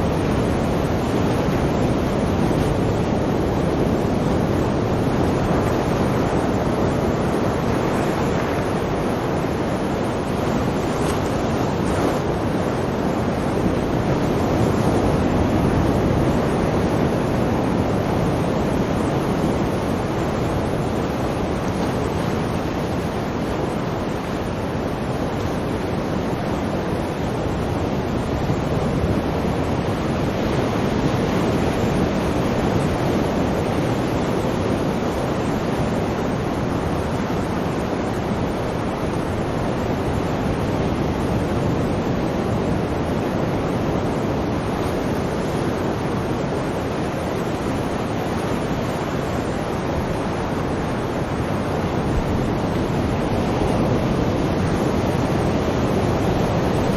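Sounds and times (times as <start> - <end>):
sea waves washing on shore: 0.0 - 56.9.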